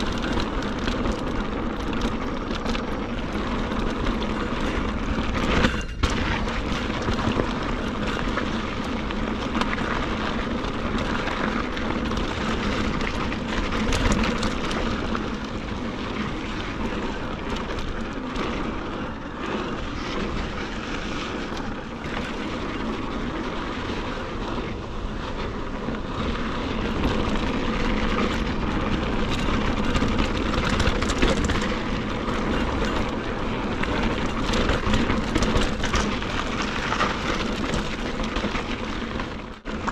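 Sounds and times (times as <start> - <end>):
bike knocks and rattles: 0.0 - 39.9
tyres rolling on dirt: 0.0 - 39.9.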